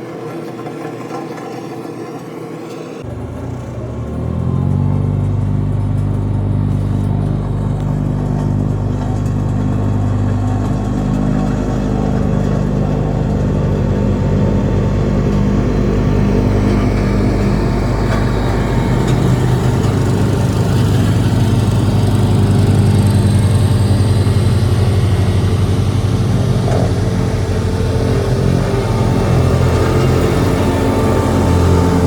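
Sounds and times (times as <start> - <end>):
road roller diesel engine: 3.0 - 32.0.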